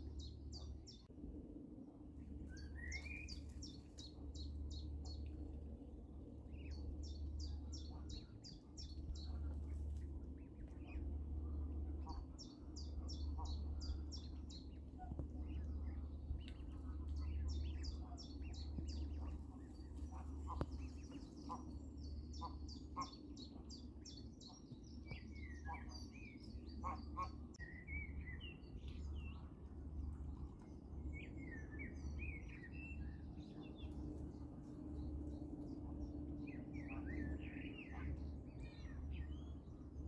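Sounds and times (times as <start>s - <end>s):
low rumble: 0.0s - 40.0s
songbirds chirping: 0.0s - 40.0s.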